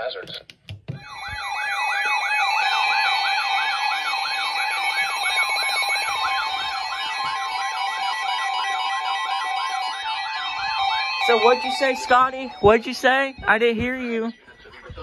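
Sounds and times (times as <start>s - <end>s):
electronic warbling alert siren: 0.9s - 15.0s.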